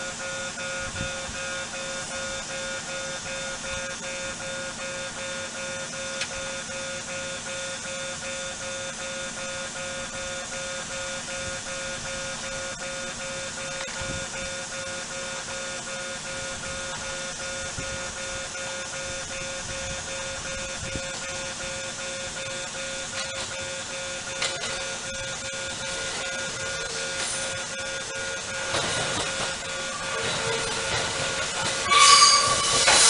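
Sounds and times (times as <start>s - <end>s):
level crossing warning bell: 0.0s - 33.0s.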